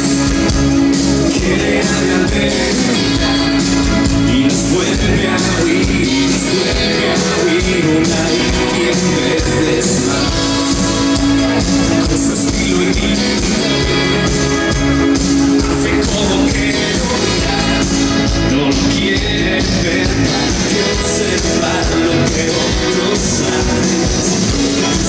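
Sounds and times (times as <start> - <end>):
live rock band playing: 0.0 - 25.0
person singing: 0.0 - 25.0.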